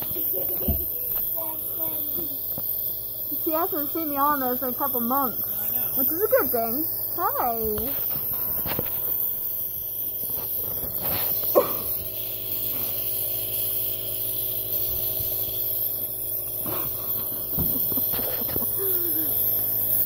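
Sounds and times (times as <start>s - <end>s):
air compressor humming and hissing: 0.0s - 20.0s.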